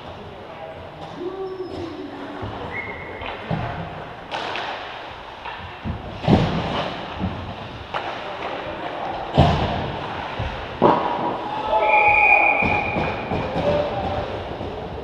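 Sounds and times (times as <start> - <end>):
thumps and knocks echoing in rink: 0.0 - 15.0.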